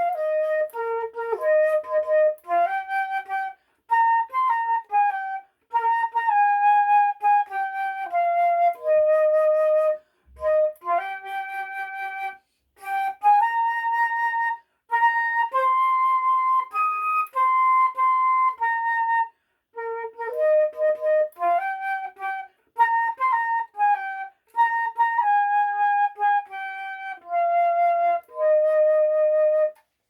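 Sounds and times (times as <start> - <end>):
solo flute melody: 0.0 - 30.0.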